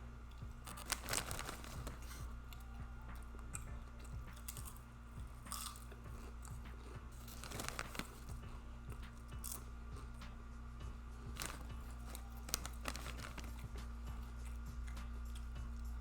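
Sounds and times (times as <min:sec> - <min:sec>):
person chewing food: 0:00.3 - 0:10.2, 0:11.2 - 0:16.0.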